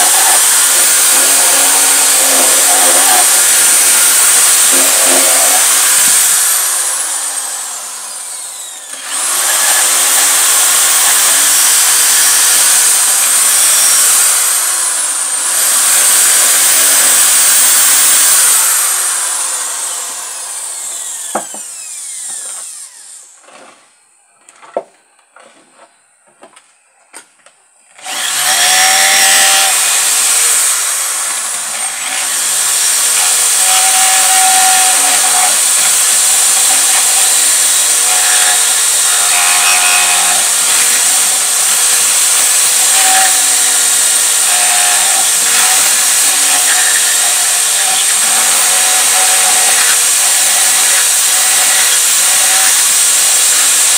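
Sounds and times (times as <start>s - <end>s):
electric drill boring into wood: 0.0s - 23.6s, 28.0s - 53.9s.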